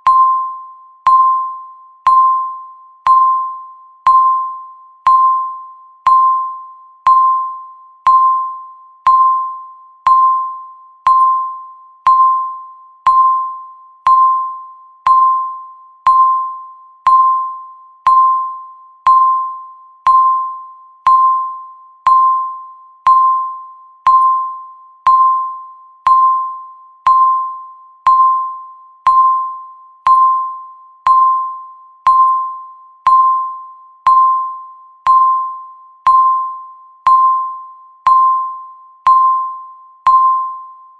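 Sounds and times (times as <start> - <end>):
electronic timer beeps: 0.0 - 40.9.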